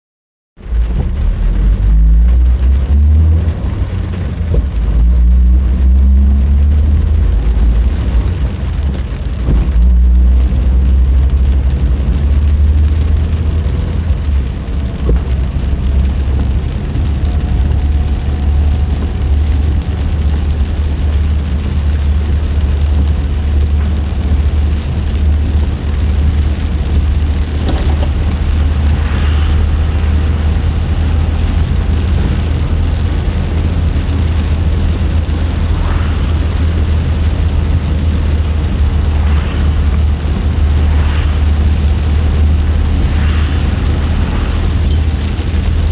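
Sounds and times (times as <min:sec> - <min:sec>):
car road and engine rumble: 0:00.6 - 0:45.9
rain hiss: 0:01.1 - 0:45.9.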